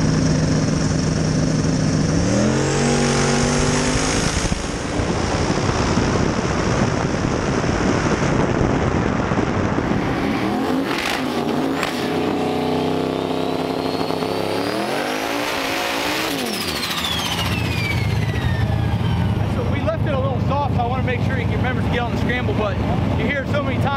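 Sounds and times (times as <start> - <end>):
engine revving: 0.0 - 23.9
race car engine full throttle: 0.0 - 23.9.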